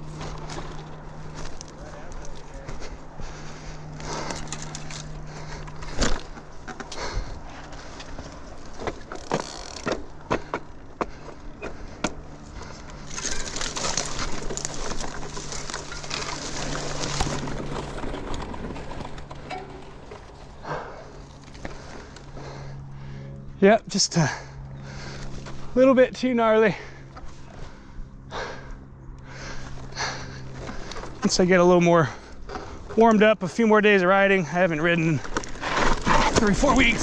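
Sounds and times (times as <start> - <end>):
bike tyres on dirt: 0.0 - 23.2, 29.3 - 37.0
bike knocking and rattling: 0.0 - 23.3, 29.2 - 33.3, 34.3 - 37.0.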